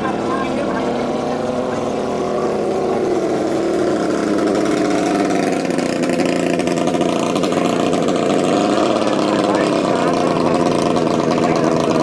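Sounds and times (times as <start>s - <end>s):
speedboat engine running: 0.0s - 12.0s.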